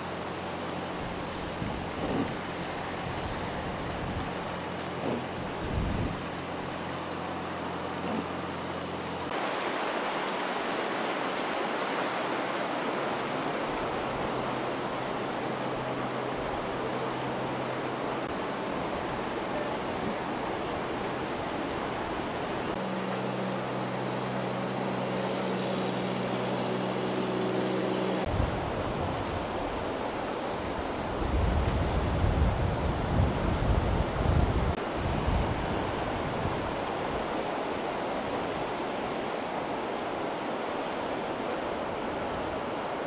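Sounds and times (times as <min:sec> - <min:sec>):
floodwater rushing: 0:00.0 - 0:43.0.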